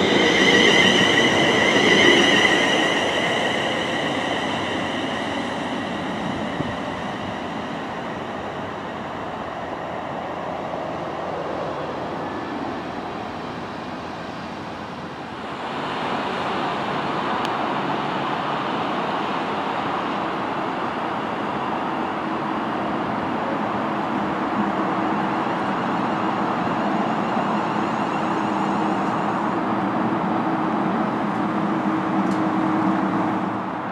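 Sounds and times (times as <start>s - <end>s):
train wheels rushing: 0.0s - 33.9s.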